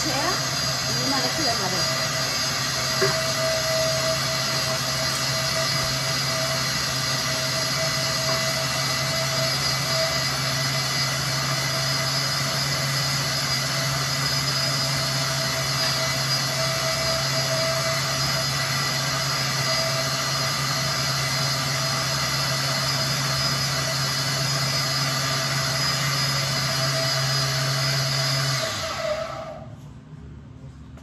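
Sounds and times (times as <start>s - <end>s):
blender motor running: 0.0s - 29.7s.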